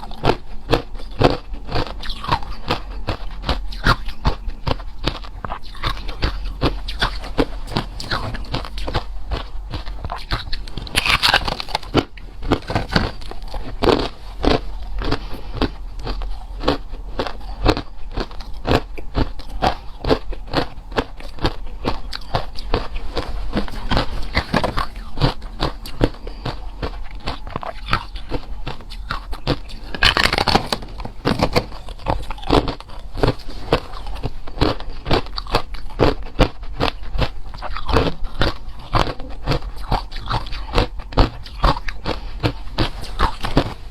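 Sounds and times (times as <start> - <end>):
ice crunching between teeth: 0.0 - 43.9.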